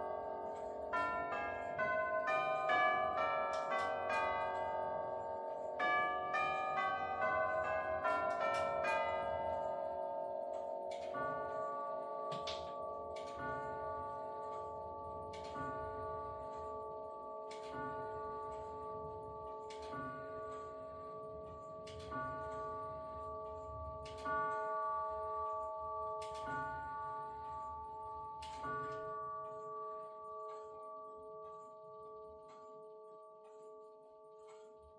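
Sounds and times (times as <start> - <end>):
grandfather clock striking: 0.0 - 33.7.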